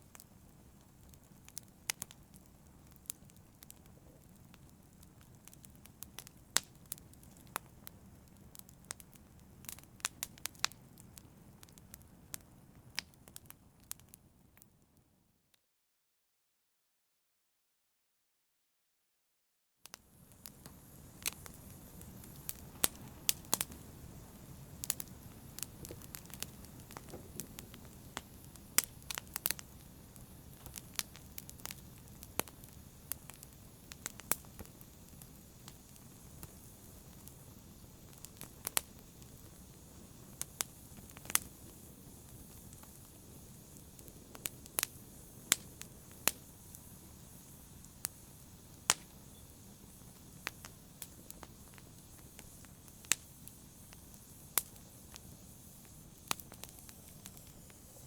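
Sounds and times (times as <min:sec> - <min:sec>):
open fire crackling: 0:00.0 - 0:15.0, 0:19.8 - 0:58.0.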